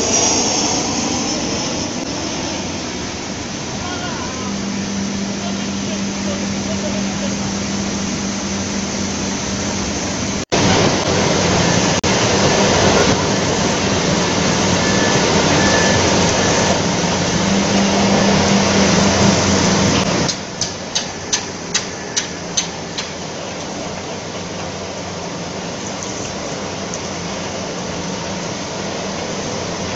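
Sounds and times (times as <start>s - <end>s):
machinery drone with low hum: 0.0s - 29.9s.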